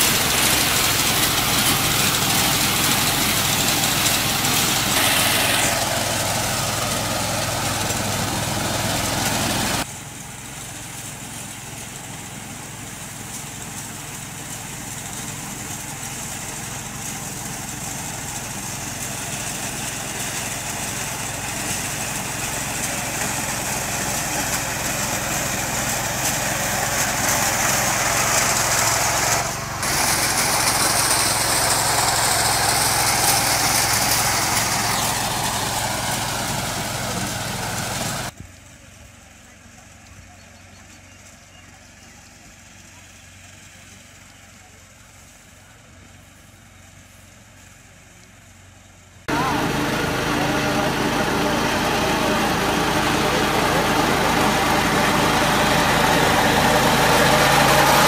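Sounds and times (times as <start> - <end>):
petrol engine running: 0.0 - 58.0.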